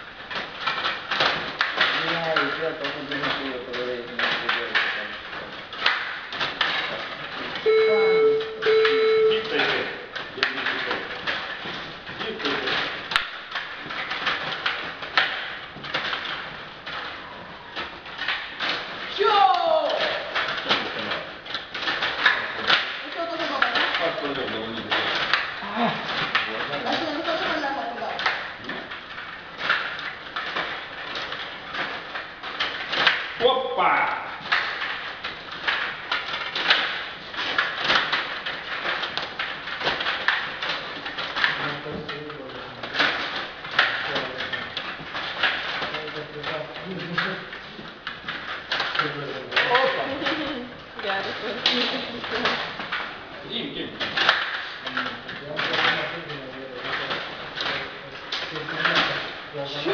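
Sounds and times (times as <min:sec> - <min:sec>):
table hockey plastic clacks: 0:00.0 - 0:33.5, 0:34.2 - 0:53.3, 0:53.9 - 0:59.9.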